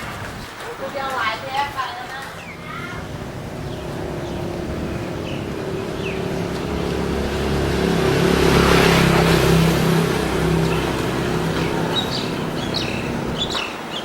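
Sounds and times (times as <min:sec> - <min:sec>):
vehicle engine running: 0:02.1 - 0:13.6.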